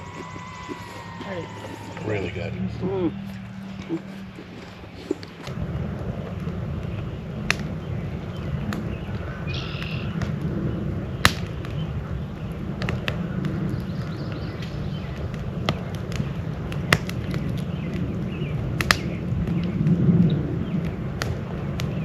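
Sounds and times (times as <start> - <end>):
burning wood popping: 0.0 - 22.0
campfire low rush: 0.0 - 22.0.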